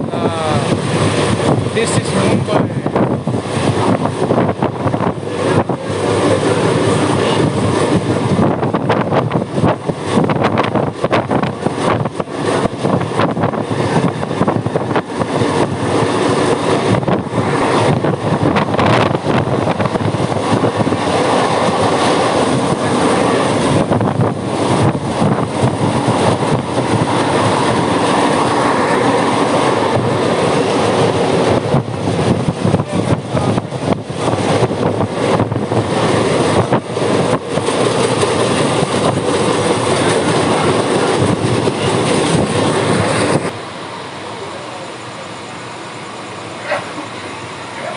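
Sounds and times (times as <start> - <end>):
wheels clattering on rails: 0.0 - 43.6
train carriages rumbling: 0.0 - 47.9.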